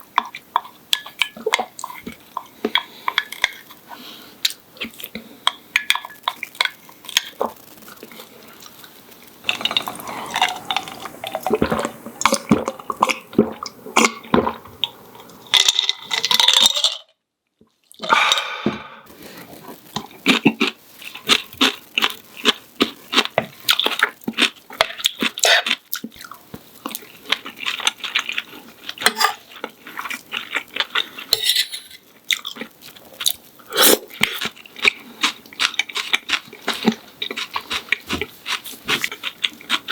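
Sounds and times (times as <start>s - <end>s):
chewing and crunching food: 0.0s - 17.0s, 19.1s - 39.9s.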